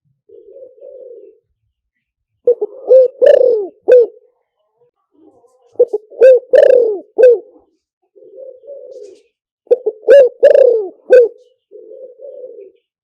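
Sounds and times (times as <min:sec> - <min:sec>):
dove cooing: 0:00.2 - 0:01.5, 0:02.5 - 0:04.3, 0:05.2 - 0:13.0.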